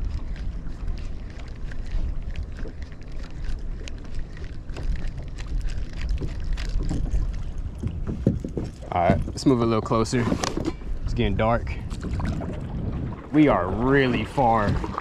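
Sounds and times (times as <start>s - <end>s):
water lapping against hull: 0.0s - 15.0s
wind buffeting microphone: 0.0s - 15.0s.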